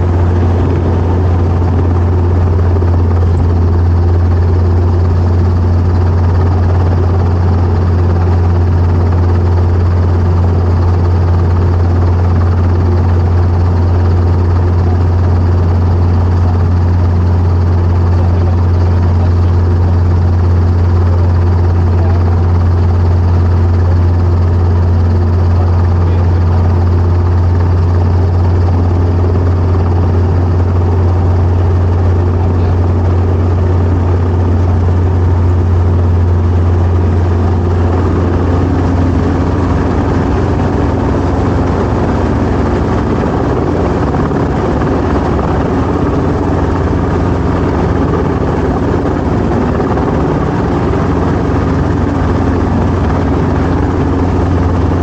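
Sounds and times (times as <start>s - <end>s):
helicopter engine and rotor drone: 0.0s - 55.0s
higher hum: 0.0s - 55.0s.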